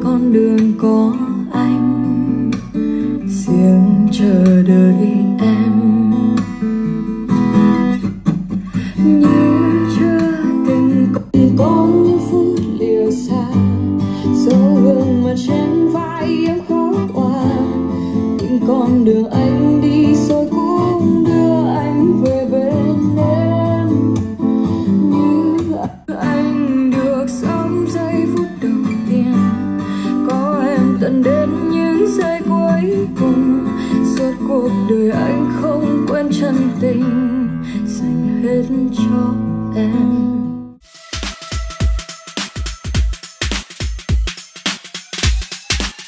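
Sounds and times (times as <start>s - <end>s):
acoustic guitar pop ballad: 0.0s - 44.6s.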